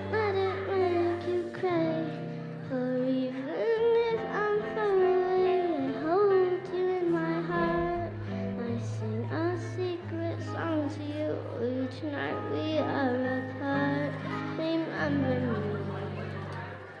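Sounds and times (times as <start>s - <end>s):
girl singing into a microphone: 0.0s - 16.8s
instrumental backing track: 0.0s - 17.0s.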